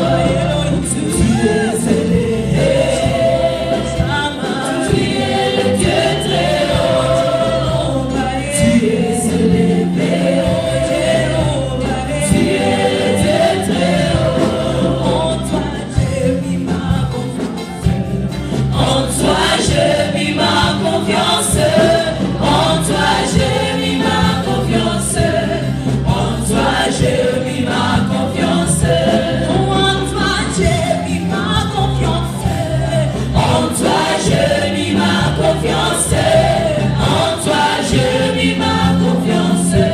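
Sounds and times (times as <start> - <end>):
gospel choir singing: 0.0 - 39.9
live band: 0.0 - 39.9.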